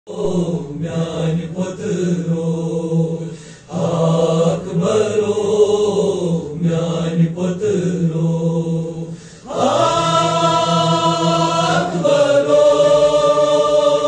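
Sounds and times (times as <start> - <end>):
men chanting together: 0.1 - 14.0.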